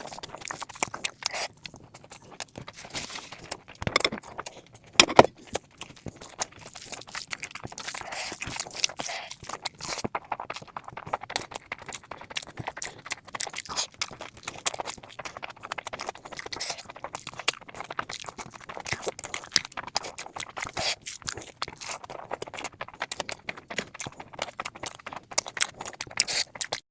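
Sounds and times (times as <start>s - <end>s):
wet chewing and smacking: 0.0s - 26.8s.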